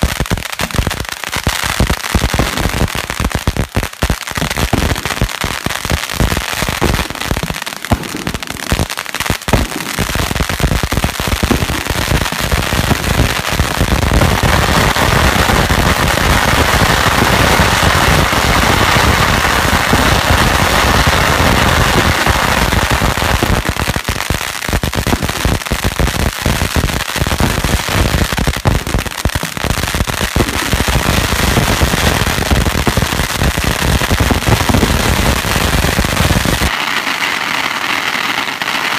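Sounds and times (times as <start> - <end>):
firecrackers banging: 0.0 - 3.9, 4.5 - 24.1, 27.4 - 38.3.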